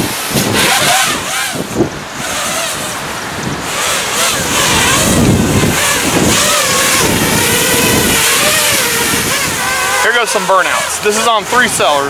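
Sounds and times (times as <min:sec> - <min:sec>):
drone motors whining: 0:00.0 - 0:12.0
wind noise on microphone: 0:00.0 - 0:12.0.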